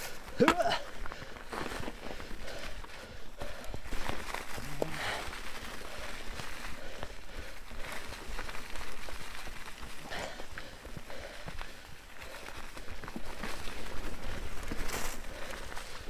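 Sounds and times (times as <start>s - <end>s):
bike tyres rolling on dirt: 0.0s - 16.0s.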